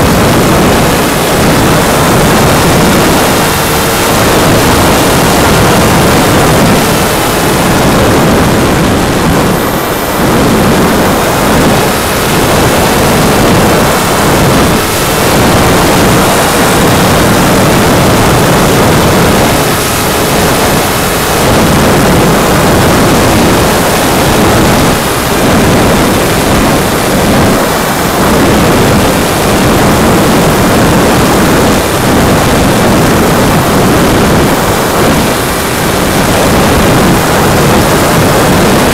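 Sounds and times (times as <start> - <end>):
faint motor and propeller whine: 0.0 - 38.9
wind rush: 0.0 - 38.9.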